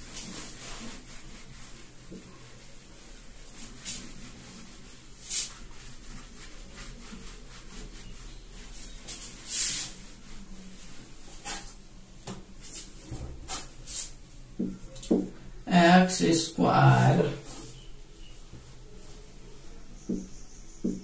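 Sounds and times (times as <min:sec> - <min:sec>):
hand wiping whiteboard: 0:00.0 - 0:11.9, 0:12.5 - 0:21.0.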